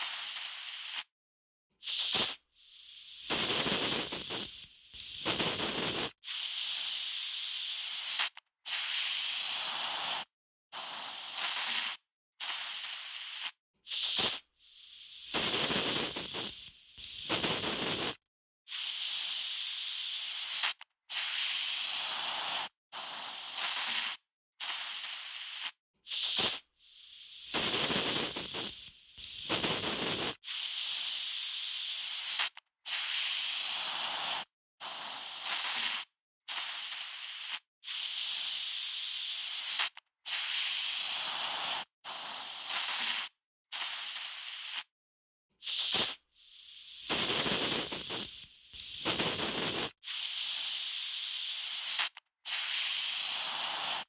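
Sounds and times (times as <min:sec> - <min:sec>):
aerosol spray can hissing: 0:00.0 - 0:01.1, 0:01.8 - 0:44.9, 0:45.6 - 0:54.0.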